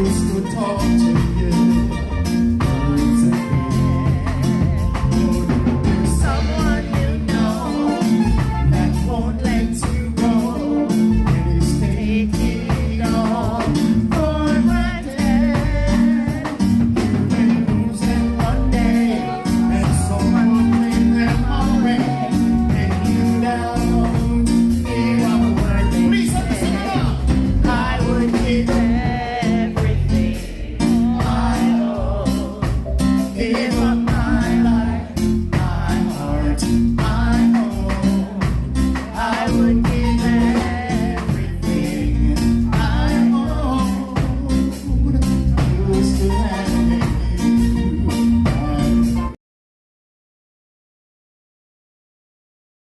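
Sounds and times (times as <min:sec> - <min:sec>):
bass: 0:00.0 - 0:49.4
drums keeping a steady beat: 0:00.0 - 0:49.4
guitar: 0:00.0 - 0:49.4
reggae song with vocals: 0:00.0 - 0:49.4.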